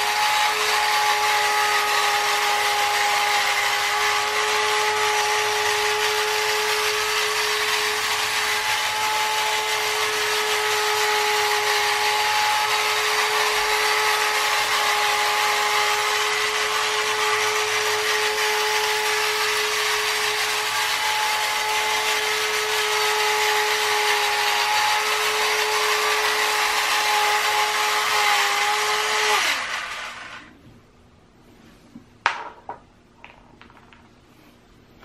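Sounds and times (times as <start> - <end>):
toy car motor whine: 0.0 - 30.5.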